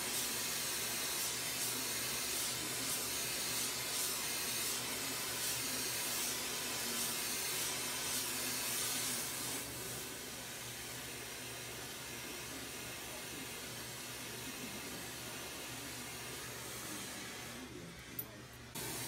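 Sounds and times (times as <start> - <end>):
torch flame hissing: 0.0 - 19.0.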